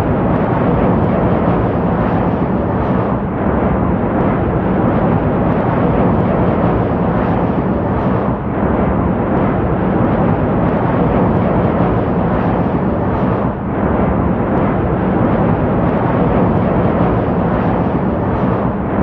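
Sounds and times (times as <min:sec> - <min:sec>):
jet aircraft roar: 0:00.0 - 0:19.0.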